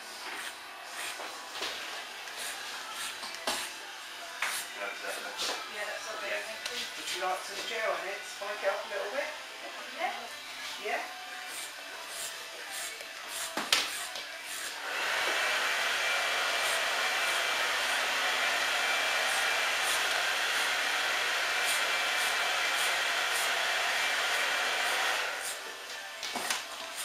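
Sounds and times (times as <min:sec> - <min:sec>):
electric hair clippers running: 0:00.3 - 0:27.0.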